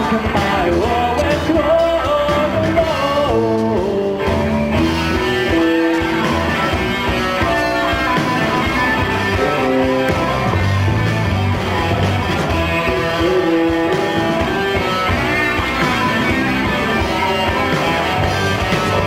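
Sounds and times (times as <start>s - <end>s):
rock band guitar instrumental: 0.0s - 19.0s
steady bass: 0.0s - 19.0s.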